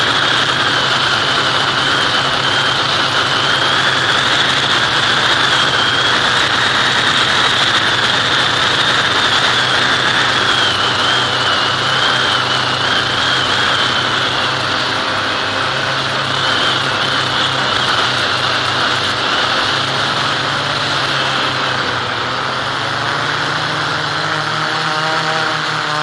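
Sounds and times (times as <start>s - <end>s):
electric motor propeller whine: 0.0s - 26.0s.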